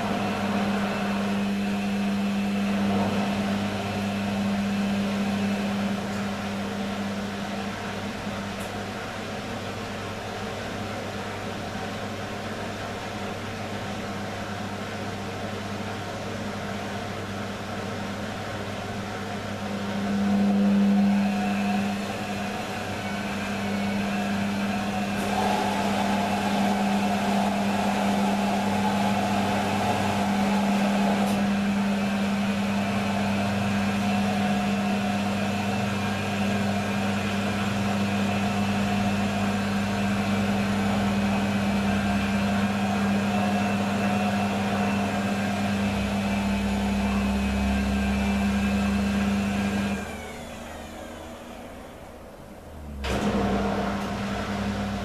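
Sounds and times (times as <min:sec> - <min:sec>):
washing machine motor hum: 0:00.0 - 0:55.0.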